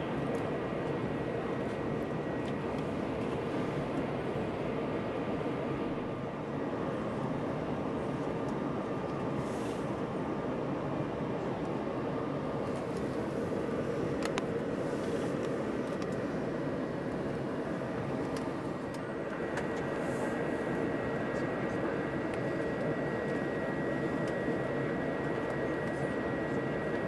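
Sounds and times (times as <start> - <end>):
airliner cabin rumble: 0.0 - 27.0
thin steady whine: 0.0 - 27.0.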